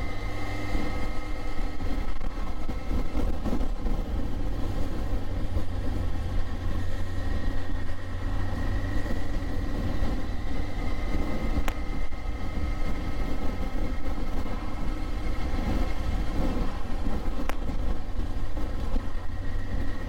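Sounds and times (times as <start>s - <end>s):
motorcycle engine cruising: 0.0s - 20.0s
wind rumble on microphone: 0.0s - 20.0s.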